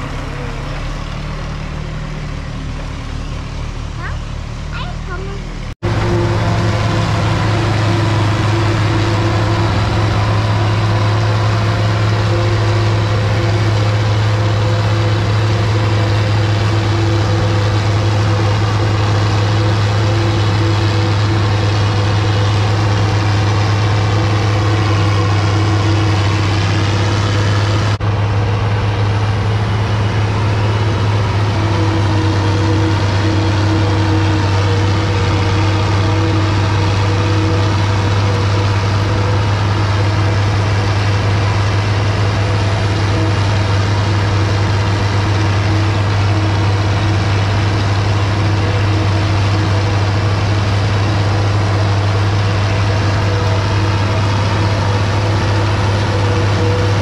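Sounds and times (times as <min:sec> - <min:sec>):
tractor diesel engine running: 0:00.0 - 0:57.0
forage harvester chopping corn: 0:04.0 - 0:57.0.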